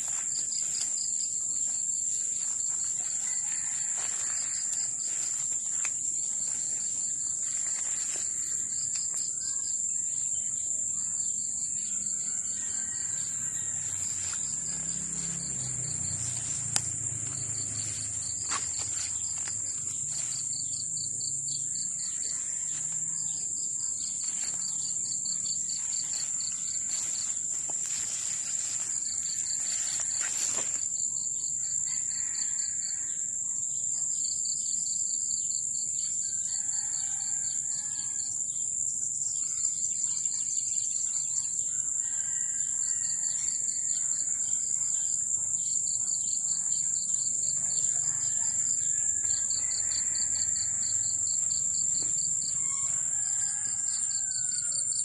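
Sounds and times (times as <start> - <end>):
insect high-pitched drone: 0.0 - 55.0.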